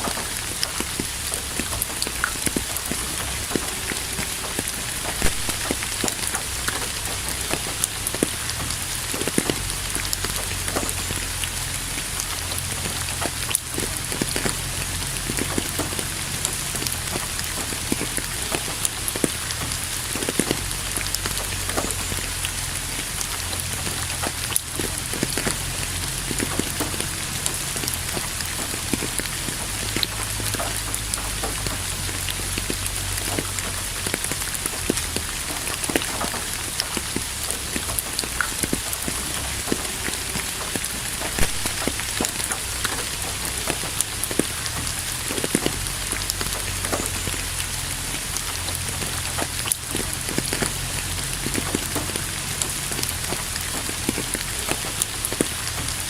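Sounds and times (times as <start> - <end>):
raindrops pattering: 0.0 - 56.0
steady rain hiss: 0.0 - 56.0.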